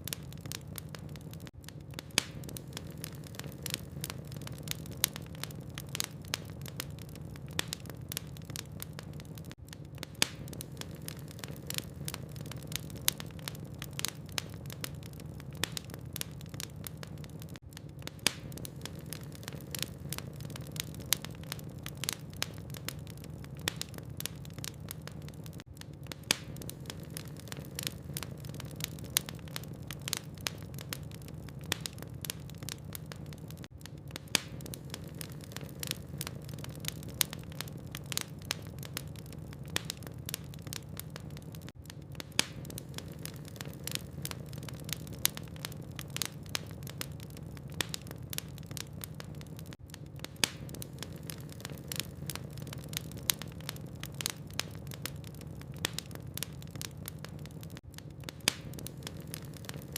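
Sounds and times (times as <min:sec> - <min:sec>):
logs crackling and popping: 0:00.0 - 0:59.9
low fire rumble: 0:00.0 - 0:59.9.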